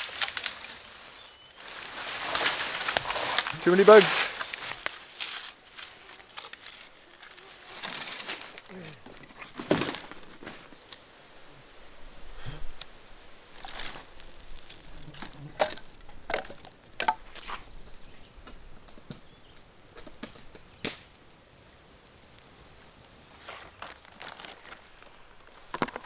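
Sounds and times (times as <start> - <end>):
burning wood popping: 0.0 - 26.0
campfire crackling: 0.0 - 26.0.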